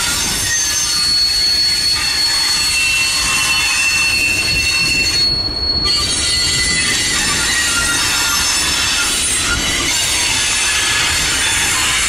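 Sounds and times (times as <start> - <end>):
train rumble: 0.0 - 12.0
train wheels squealing on rails: 0.0 - 12.0.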